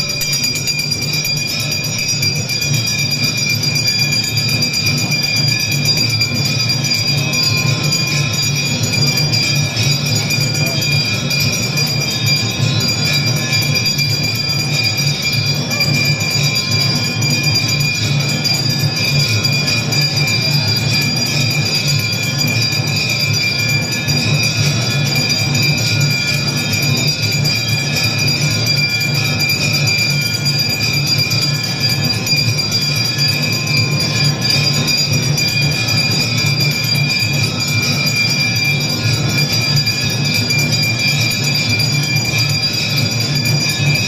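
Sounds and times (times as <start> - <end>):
temple bells ringing: 0.0 - 44.0.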